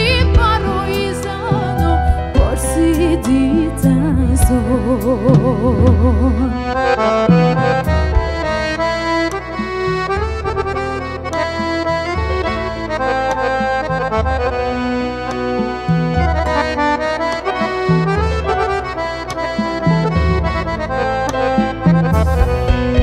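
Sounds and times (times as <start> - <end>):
live band instrumental: 0.0 - 23.0
low bass notes: 0.0 - 23.0.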